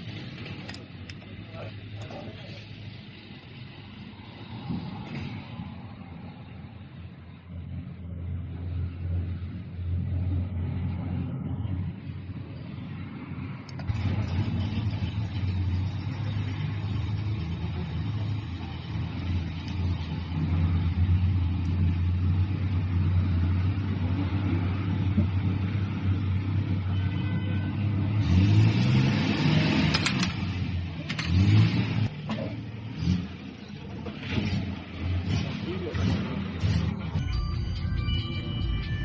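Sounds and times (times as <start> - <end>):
diesel engine revving: 0.0 - 39.0.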